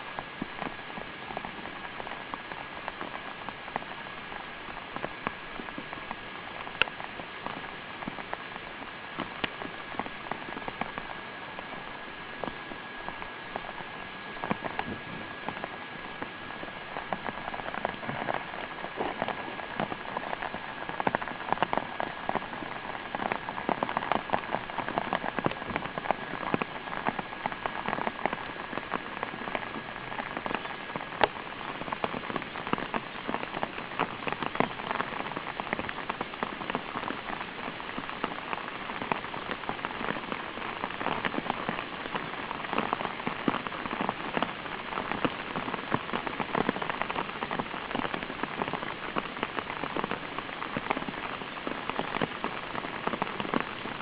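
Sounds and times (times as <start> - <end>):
rain patter: 0.0 - 54.0.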